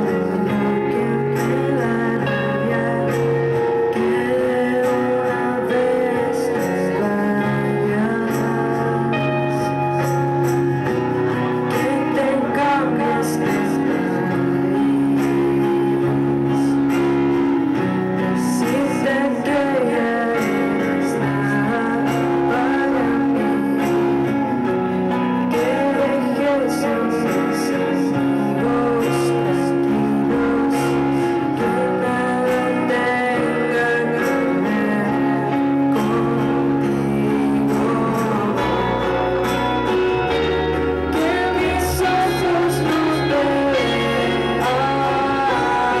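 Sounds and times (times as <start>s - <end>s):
acoustic guitar strumming: 0.0s - 46.0s
woman singing: 0.0s - 46.0s.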